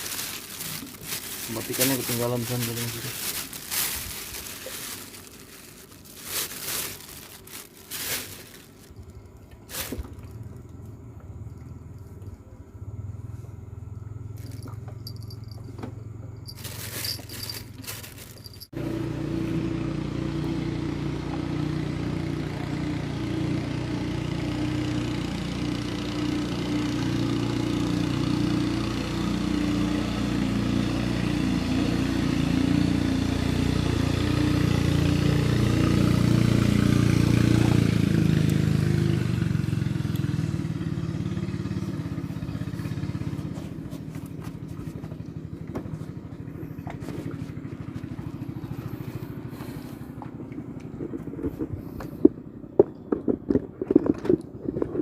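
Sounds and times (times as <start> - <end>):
motorcycle engine running: 0.0 - 11.5, 13.0 - 53.0.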